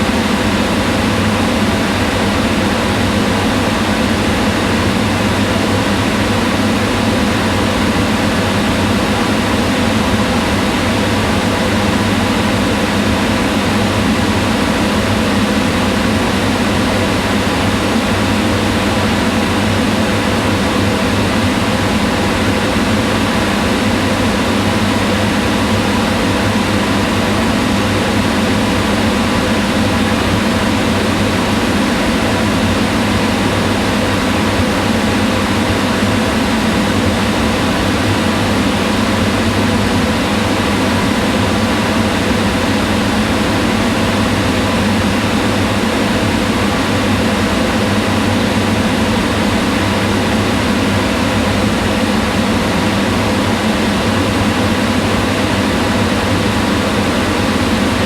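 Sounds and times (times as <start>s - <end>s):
range hood fan running: 0.0s - 58.0s.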